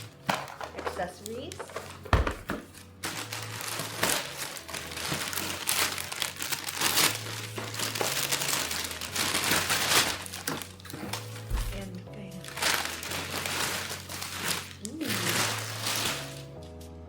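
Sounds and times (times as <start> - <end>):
packaging crinkling and rustling: 0.0 - 16.6.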